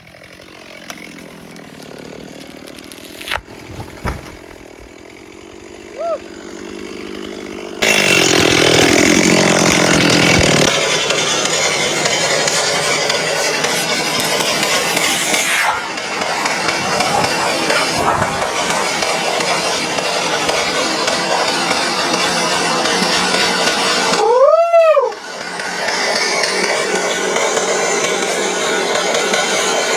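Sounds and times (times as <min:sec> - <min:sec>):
chainsaw revving: 0:00.0 - 0:24.4, 0:25.0 - 0:29.9.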